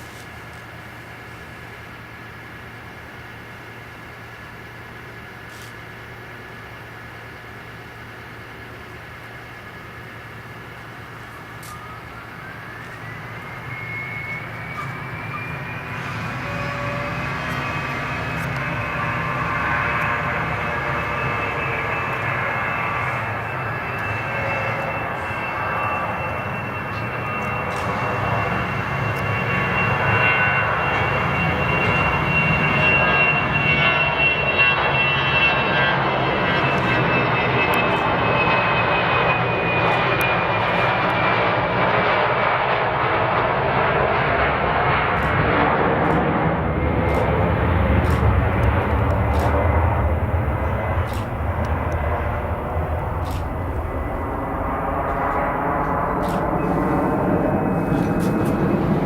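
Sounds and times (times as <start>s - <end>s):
jet engines whining: 0.1s - 59.0s.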